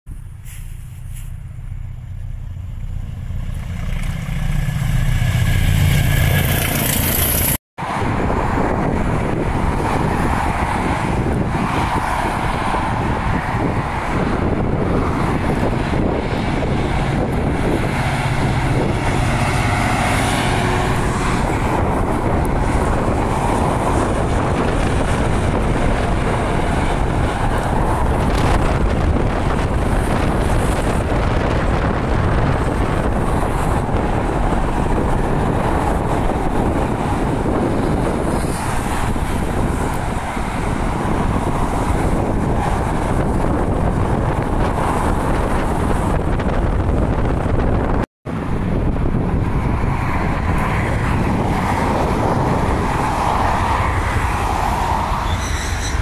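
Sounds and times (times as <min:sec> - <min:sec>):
diesel locomotive rumble: 0:00.1 - 0:56.0
wind on microphone: 0:00.5 - 0:56.0
cars swishing past: 0:02.7 - 0:56.0.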